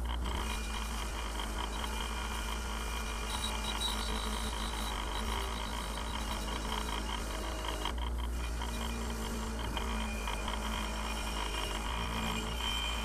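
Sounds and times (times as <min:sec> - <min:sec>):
grinder motor humming: 0:00.0 - 0:13.0
wire wheel scratching metal: 0:00.0 - 0:13.0.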